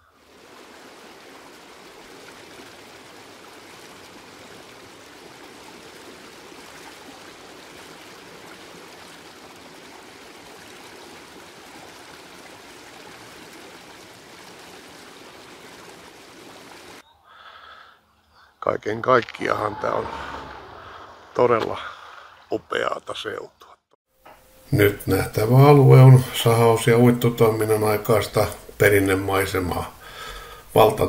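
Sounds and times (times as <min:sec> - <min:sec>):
water rushing: 0:00.0 - 0:17.0, 0:19.2 - 0:22.3, 0:24.8 - 0:31.0.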